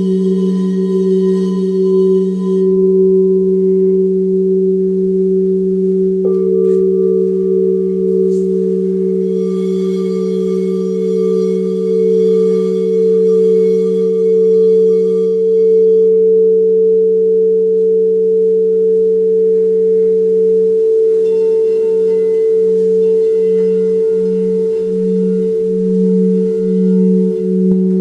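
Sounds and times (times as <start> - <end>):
singing bowls ringing: 0.0 - 28.0.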